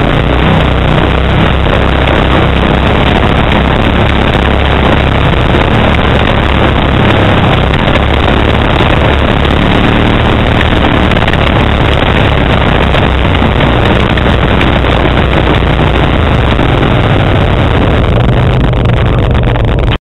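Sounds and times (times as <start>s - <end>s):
atv engine running: 0.0s - 20.0s
rushing wind noise: 0.0s - 20.0s.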